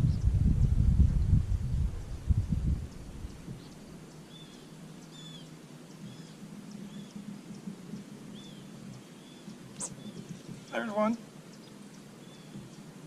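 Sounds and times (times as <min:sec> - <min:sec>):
faint low hum: 0:00.0 - 0:13.0
bird chirping faintly: 0:02.0 - 0:13.0.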